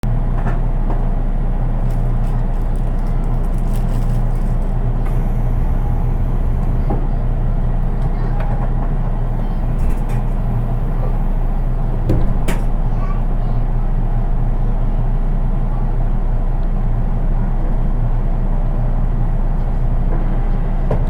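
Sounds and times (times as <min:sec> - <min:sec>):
electric train car hum: 0:00.0 - 0:21.0.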